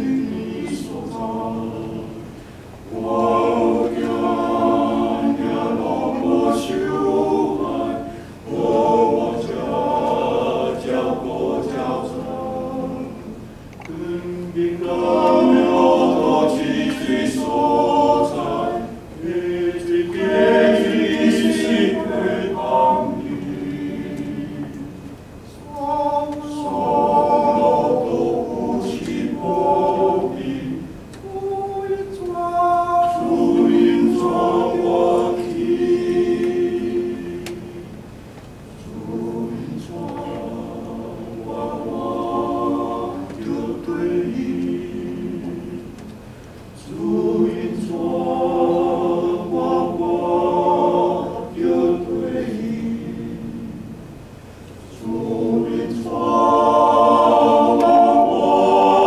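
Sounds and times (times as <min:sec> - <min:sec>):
male choir singing a hymn: 0:00.0 - 0:38.1, 0:38.7 - 0:46.2, 0:46.8 - 0:54.0, 0:54.8 - 0:59.0.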